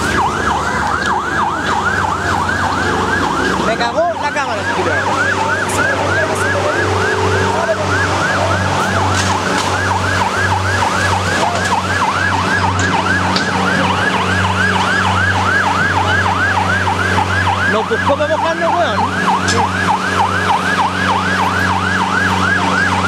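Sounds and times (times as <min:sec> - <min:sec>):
siren yelping: 0:00.0 - 0:23.0.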